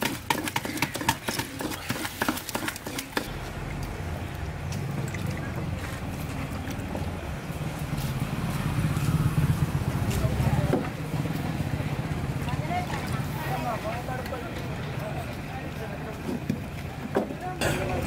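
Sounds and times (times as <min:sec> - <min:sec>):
voices: 0:00.6 - 0:18.0.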